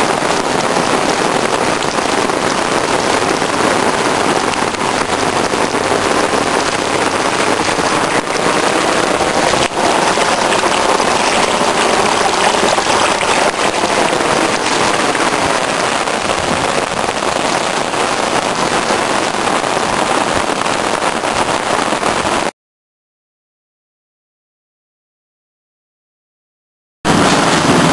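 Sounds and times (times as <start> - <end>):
heavy rain pouring: 0.0 - 22.5, 27.1 - 27.9.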